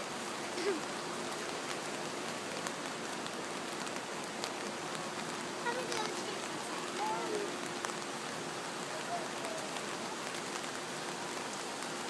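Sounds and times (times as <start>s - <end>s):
water patters and drips: 0.0s - 12.0s.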